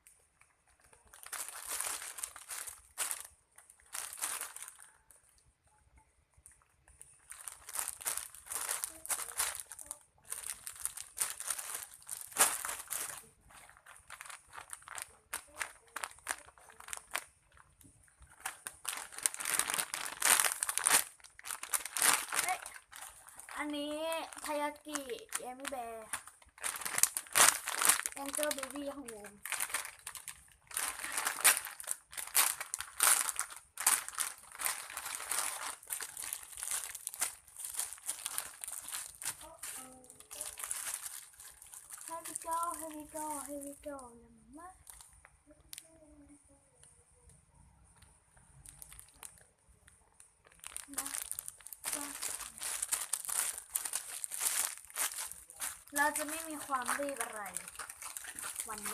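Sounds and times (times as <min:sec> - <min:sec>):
foam toys squeezed crinkling: 0:00.1 - 0:05.5, 0:06.4 - 0:45.9, 0:48.0 - 0:58.9.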